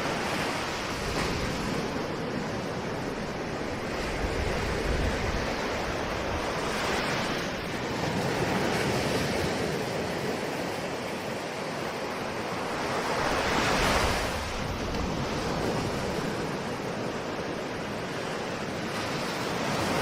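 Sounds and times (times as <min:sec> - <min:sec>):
ocean waves breaking on shore: 0:00.0 - 0:20.0.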